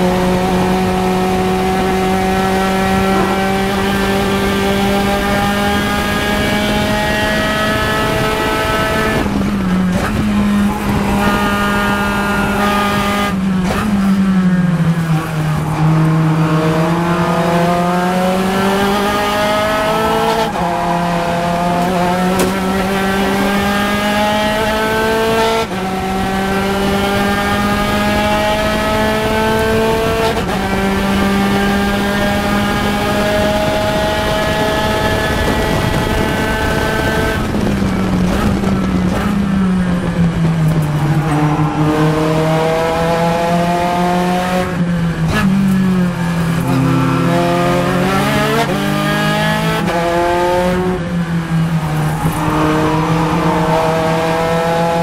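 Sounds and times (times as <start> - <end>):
racing car engine at high revs: 0.0 - 55.0.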